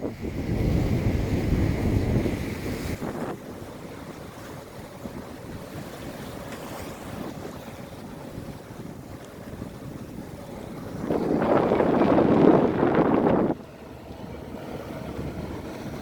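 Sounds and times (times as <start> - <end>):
boat engine hum: 0.0 - 16.0
sea waves: 0.0 - 16.0
wind noise on microphone: 0.0 - 16.0.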